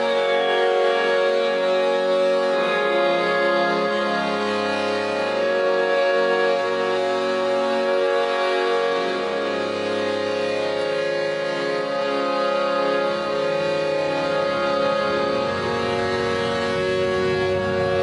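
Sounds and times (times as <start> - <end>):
droning soundtrack music: 0.0 - 18.0.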